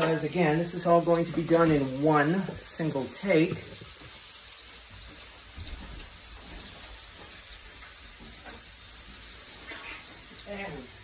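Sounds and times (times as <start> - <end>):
chicken sizzling in pans: 0.0 - 11.0.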